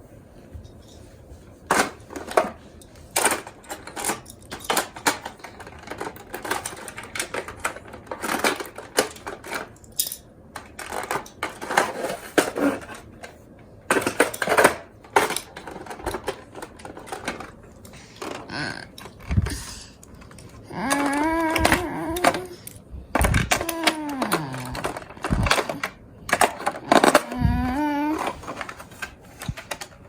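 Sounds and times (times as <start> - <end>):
toy cars clicking and clattering: 1.7 - 30.0.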